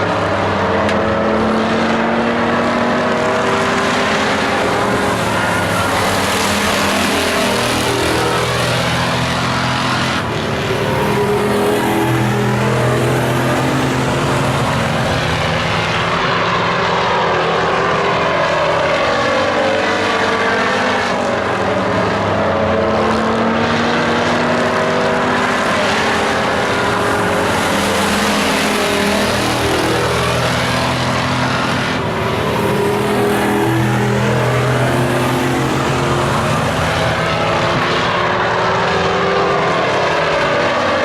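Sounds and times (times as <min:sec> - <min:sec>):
racing truck engines passing: 0:00.0 - 0:41.0.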